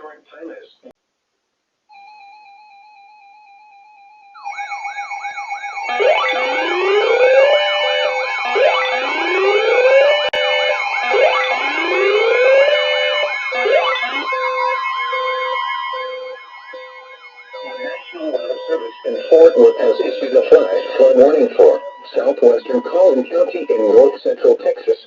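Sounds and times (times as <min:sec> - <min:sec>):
siren yelping: 0:03.4 - 0:24.3
steady siren tones: 0:03.4 - 0:24.7
siren wailing: 0:03.7 - 0:24.6.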